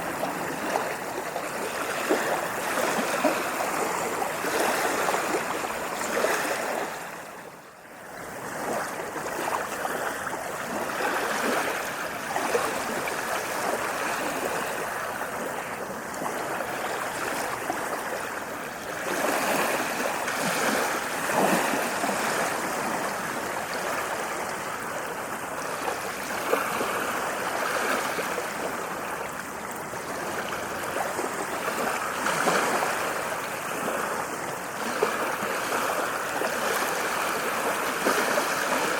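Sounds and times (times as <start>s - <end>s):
ocean waves washing on beach: 0.0s - 38.9s.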